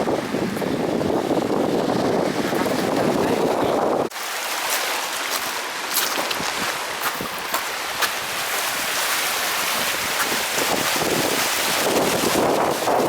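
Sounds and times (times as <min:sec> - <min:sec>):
small waves washing ashore: 0:00.0 - 0:13.0.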